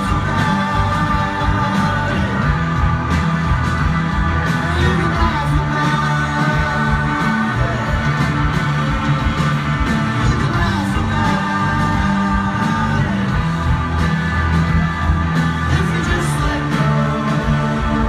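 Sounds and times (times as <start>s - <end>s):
person singing: 0.0s - 2.9s, 4.6s - 9.5s, 10.2s - 13.8s, 14.6s - 18.0s
bass guitar: 0.0s - 18.0s
drums: 0.0s - 18.0s
electric guitars: 0.0s - 18.0s.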